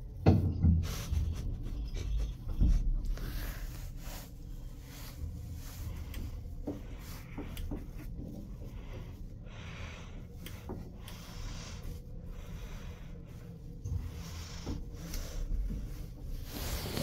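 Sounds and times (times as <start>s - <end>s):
elevator ride rumble: 0.0s - 17.0s.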